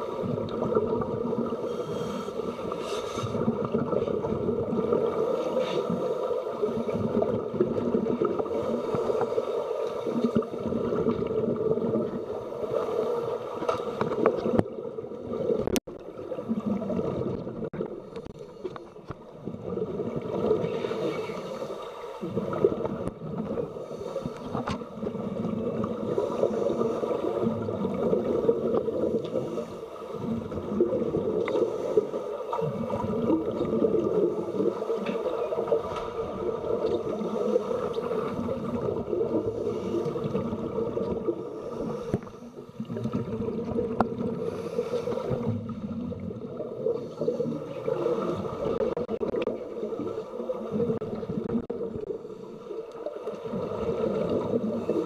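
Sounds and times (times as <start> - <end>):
underwater bubbling: 0.0 - 55.0.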